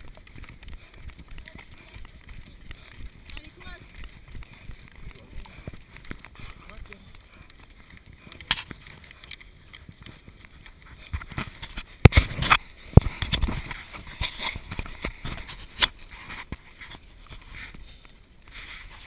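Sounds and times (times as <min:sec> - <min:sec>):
camera rubbing and knocking: 0:00.0 - 0:17.8
footsteps on dirt trail: 0:00.0 - 0:19.0.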